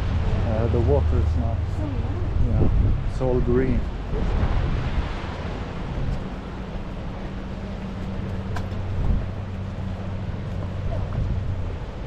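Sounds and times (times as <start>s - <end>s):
boat engine humming: 0.0s - 12.0s
rushing water: 0.0s - 12.0s
wind on microphone: 0.0s - 12.0s.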